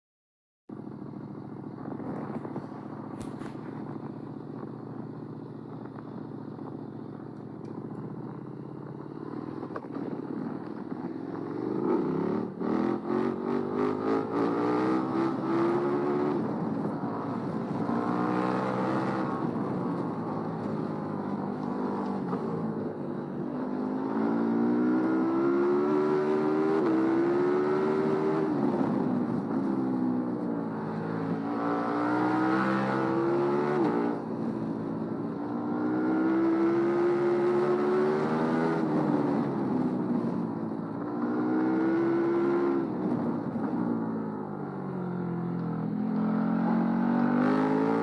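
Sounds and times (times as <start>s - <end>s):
motorcycle engine revving: 7.8s - 44.6s, 45.2s - 48.0s.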